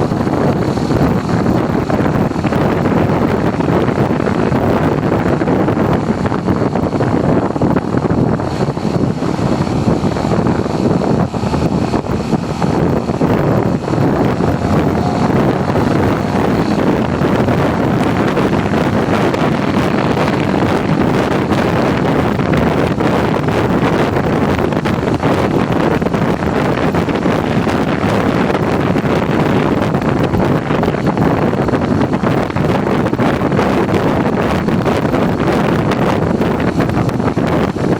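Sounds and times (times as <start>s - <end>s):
motorcycle running: 0.0s - 37.9s
wind rushing over microphone: 0.0s - 37.9s.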